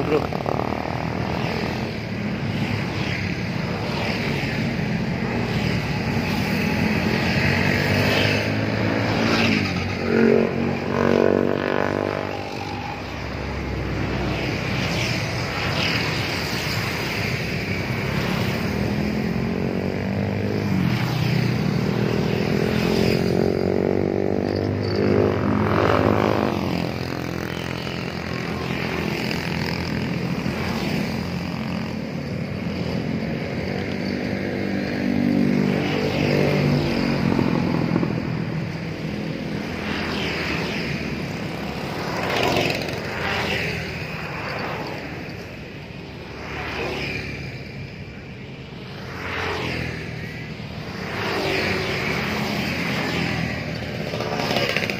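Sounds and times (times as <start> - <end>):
vehicles passing: 0.0 - 54.9.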